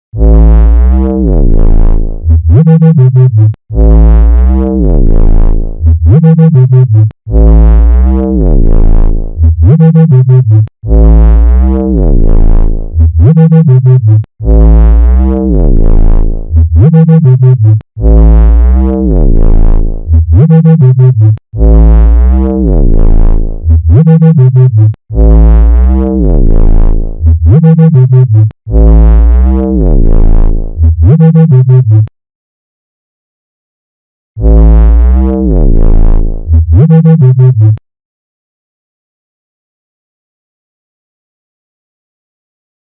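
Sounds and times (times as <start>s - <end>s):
rapid electronic pulses: 0.2s - 32.1s, 34.4s - 37.8s.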